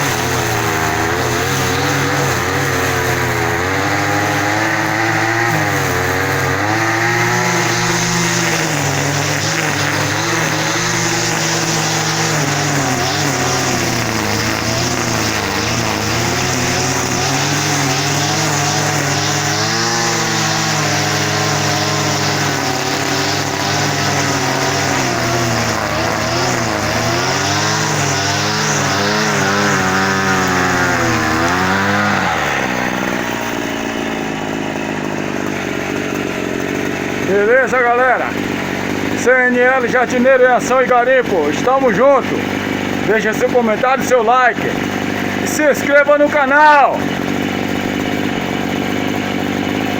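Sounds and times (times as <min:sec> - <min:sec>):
small garden tool engine revving: 0:00.0 - 0:49.9.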